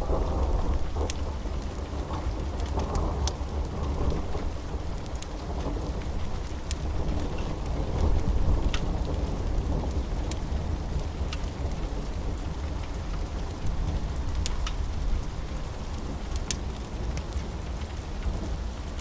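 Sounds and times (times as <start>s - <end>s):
low rumble of thunder: 0.0s - 19.0s
steady rain: 0.0s - 19.0s
wood fire crackling: 0.0s - 19.0s.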